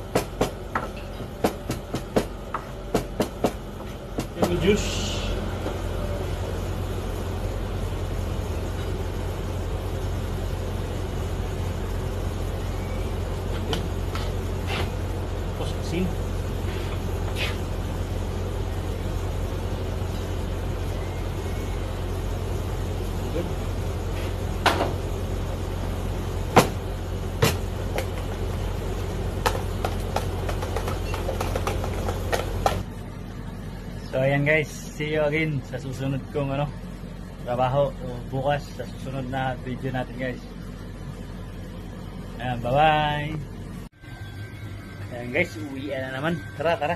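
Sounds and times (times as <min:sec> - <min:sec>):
exhaust hood fans droning: 0:00.0 - 0:46.9.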